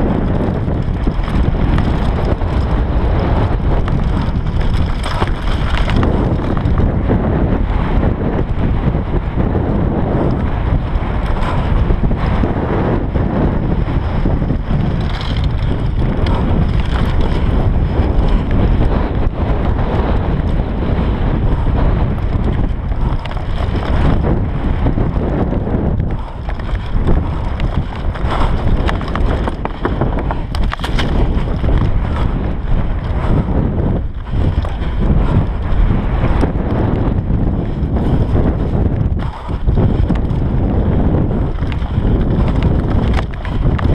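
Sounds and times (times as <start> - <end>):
bike knocks and rattles: 0.0 - 43.9
bike tyres rumbling on dirt: 0.0 - 43.9
wind buffeting microphone: 0.0 - 43.9.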